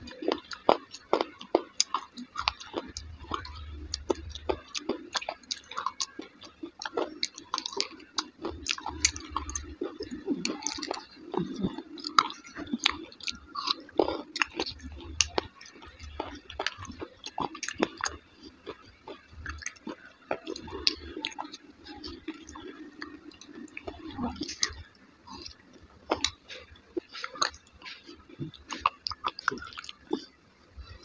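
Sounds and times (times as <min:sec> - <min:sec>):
wet chewing: 0:00.0 - 0:31.0.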